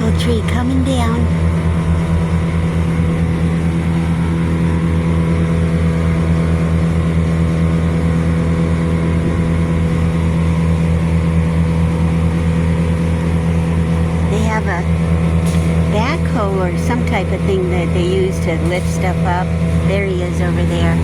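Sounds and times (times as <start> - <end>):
heavy equipment engine humming: 0.0 - 21.0.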